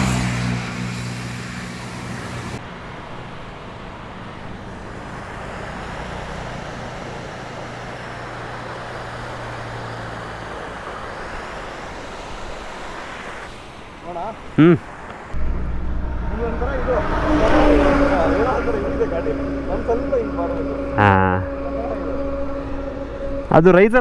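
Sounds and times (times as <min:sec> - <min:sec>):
low vehicle engine hum: 0:00.0 - 0:13.4, 0:15.4 - 0:24.0.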